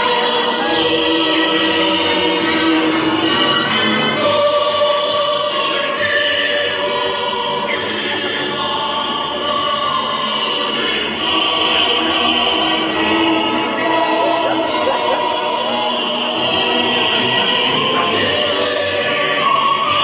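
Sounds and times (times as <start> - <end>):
crowd noise: 0.0 - 20.0
crowd singing slow song: 0.0 - 20.0.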